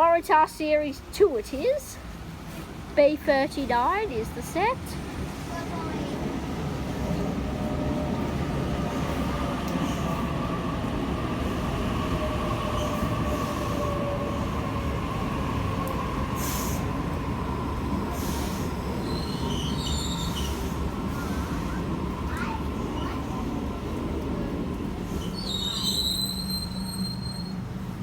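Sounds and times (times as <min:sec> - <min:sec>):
electric train rumble and whine: 0:00.0 - 0:28.0.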